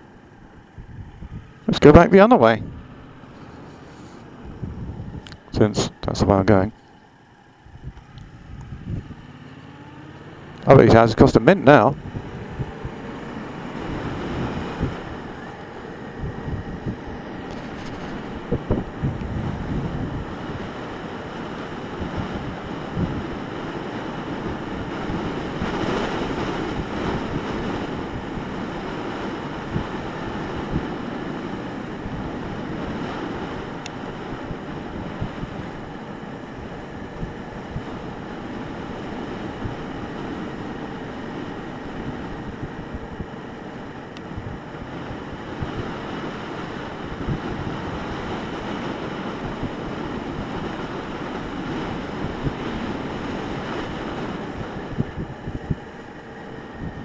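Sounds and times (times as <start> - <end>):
motorcycle engine: 0.0 - 57.0
road noise: 0.0 - 57.0
wind buffeting microphone: 0.4 - 6.8, 7.6 - 57.0.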